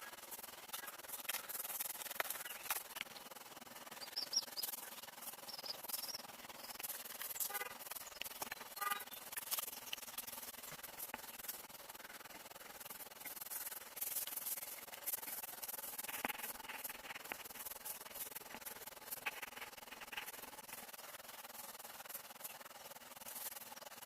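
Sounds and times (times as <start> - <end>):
dry scraping and rustling: 0.0 - 3.0, 4.6 - 24.0.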